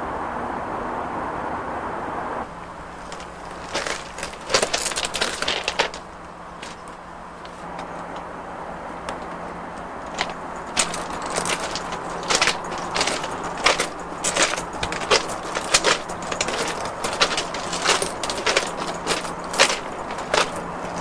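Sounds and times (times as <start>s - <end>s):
footsteps on gravel: 3.0s - 8.3s, 8.9s - 21.0s.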